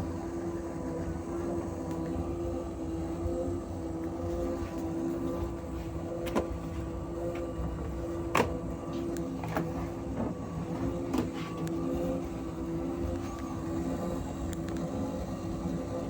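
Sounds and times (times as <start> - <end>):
tumble dryer humming: 0.0 - 16.0.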